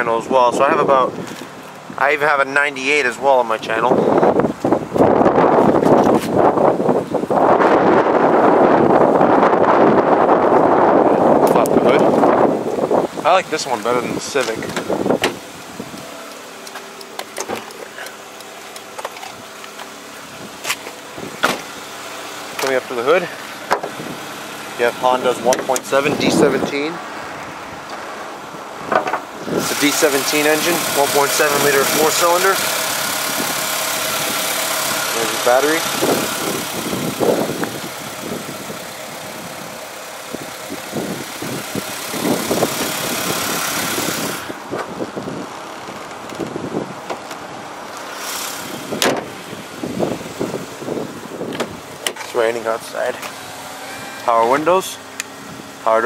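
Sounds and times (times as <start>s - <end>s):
car engine idling: 0.1s - 56.0s.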